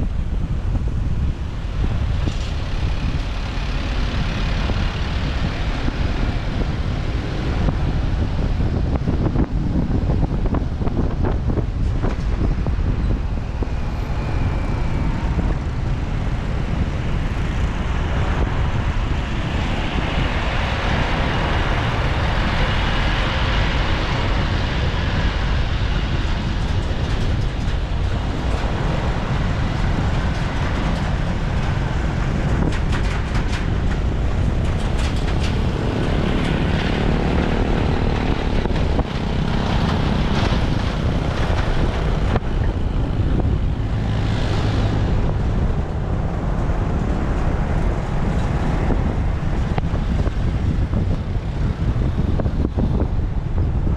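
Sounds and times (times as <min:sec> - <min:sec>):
wind on microphone: 0:00.0 - 0:53.9.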